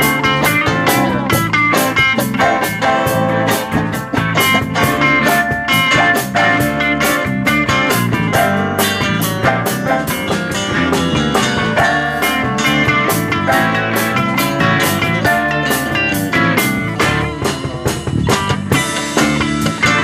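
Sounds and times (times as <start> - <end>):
drum beat: 0.0 - 20.0
electric guitars: 0.0 - 20.0.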